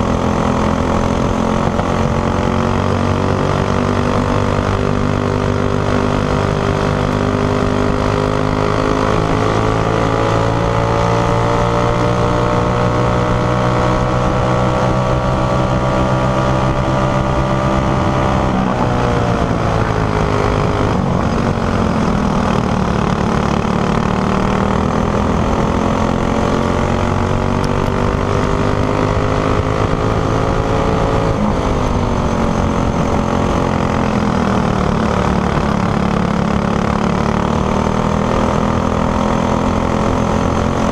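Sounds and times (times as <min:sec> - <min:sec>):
kart engine at full throttle: 0:00.0 - 0:40.9.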